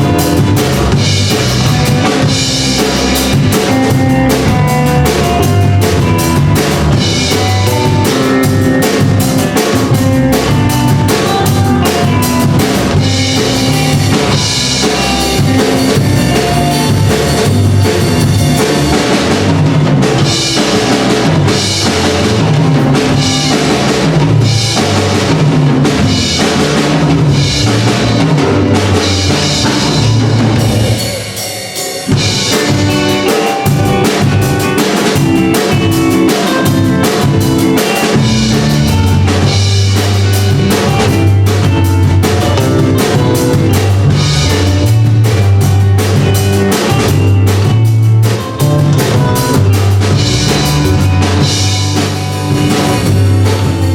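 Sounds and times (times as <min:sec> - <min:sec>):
band playing loud music: 0:00.0 - 0:53.9
bass guitar: 0:00.0 - 0:53.9
drum kit: 0:00.0 - 0:53.9.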